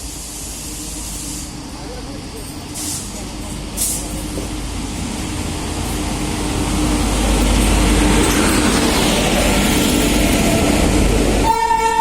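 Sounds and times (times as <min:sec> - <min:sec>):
train rumble with faint hum: 0:00.0 - 0:12.0.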